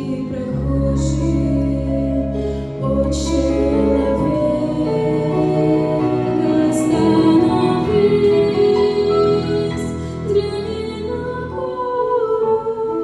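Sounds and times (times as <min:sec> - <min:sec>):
gentle song with held chords: 0:00.0 - 0:13.0
woman singing: 0:00.0 - 0:13.0.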